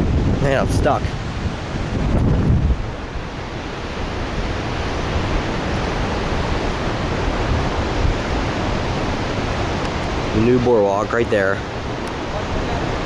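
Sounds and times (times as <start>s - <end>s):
ocean surf rushing: 0.0s - 13.0s
wind: 0.0s - 13.0s
wind buffeting microphone: 0.0s - 13.0s.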